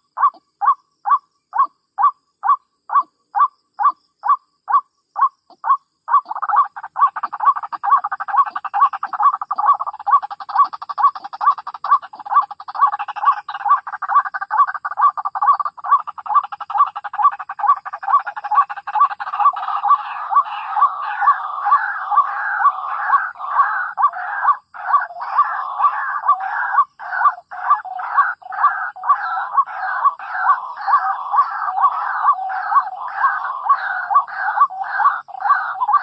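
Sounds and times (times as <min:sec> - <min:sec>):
dense layer of bird calling: 0:00.0 - 0:36.0
waterhen croaking calls: 0:00.0 - 0:36.0.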